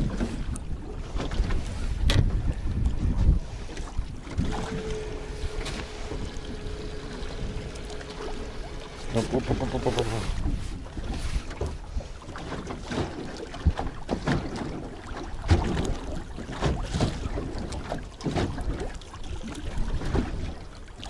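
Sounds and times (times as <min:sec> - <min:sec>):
sharp knocks against boat: 0:00.0 - 0:20.6
wind buffeting microphone: 0:00.0 - 0:20.9
waves slapping boat hull: 0:00.0 - 0:21.0.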